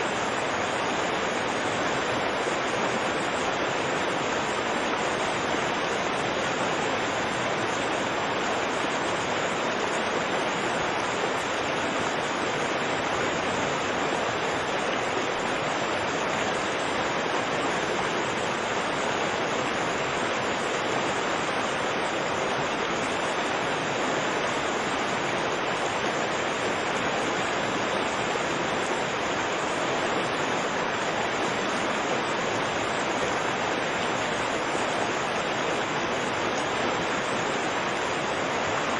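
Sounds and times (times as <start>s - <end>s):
turbulent river water rushing: 0.0s - 38.9s.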